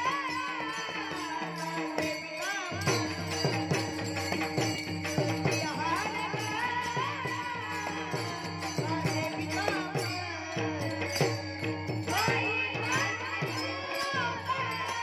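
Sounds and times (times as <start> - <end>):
boy singing: 0.0 - 15.0
drum beats: 0.0 - 15.0
hand cymbals: 0.0 - 15.0.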